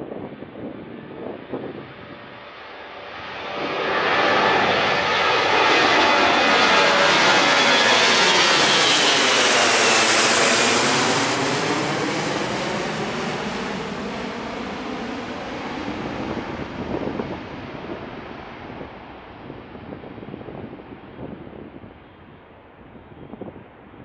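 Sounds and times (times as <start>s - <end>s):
jet engine high whine: 0.0s - 24.0s
jet engines roaring: 0.1s - 22.3s.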